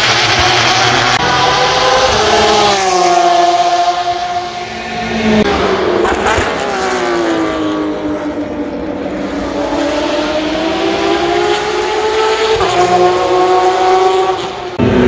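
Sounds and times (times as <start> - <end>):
race car engine passing: 0.0 - 15.0.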